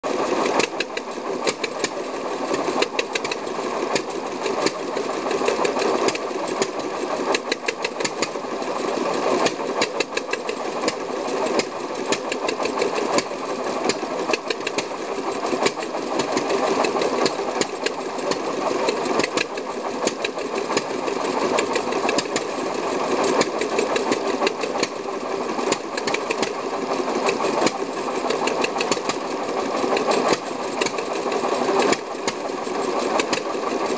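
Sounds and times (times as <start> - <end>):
stationary engine knocking: 0.1 - 33.9.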